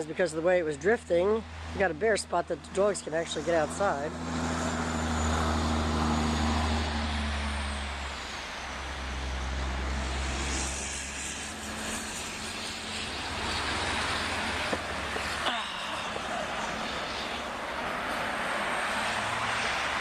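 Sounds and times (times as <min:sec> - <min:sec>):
distant engine droning: 0:00.0 - 0:20.0.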